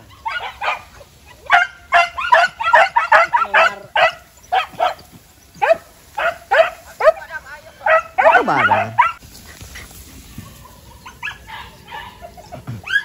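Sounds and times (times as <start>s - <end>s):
dogs yelping: 0.0s - 7.2s, 7.8s - 13.0s.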